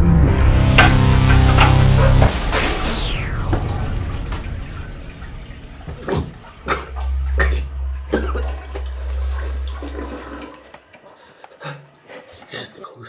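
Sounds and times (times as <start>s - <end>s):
short sharp sounds: 0.0s - 10.7s.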